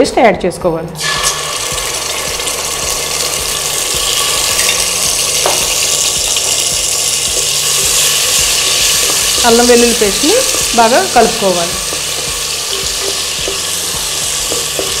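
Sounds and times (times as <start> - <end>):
paste sizzling in a pot: 1.0 - 15.0.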